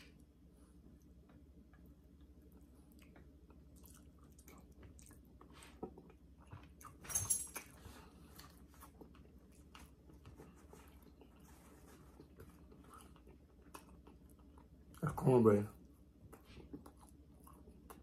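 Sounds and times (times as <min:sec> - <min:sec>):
low steady hum: 0:00.0 - 0:18.0
man chewing: 0:00.1 - 0:15.0, 0:15.9 - 0:18.0.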